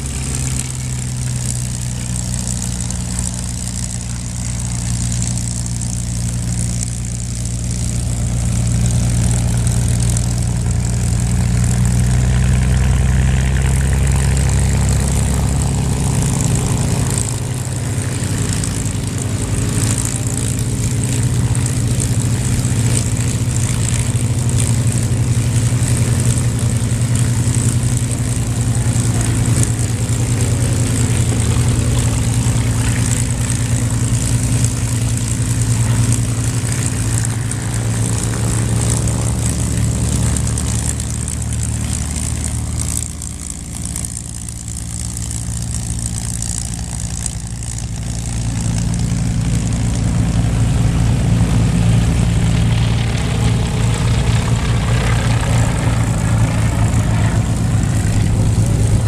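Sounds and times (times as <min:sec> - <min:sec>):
propeller planes taxiing: 0:00.0 - 0:59.0.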